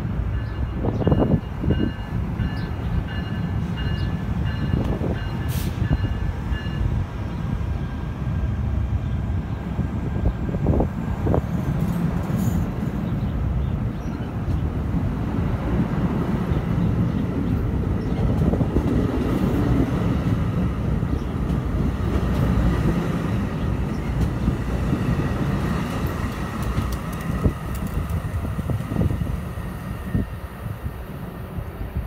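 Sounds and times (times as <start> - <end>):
steel wheels rumbling on rail: 0.0 - 32.0.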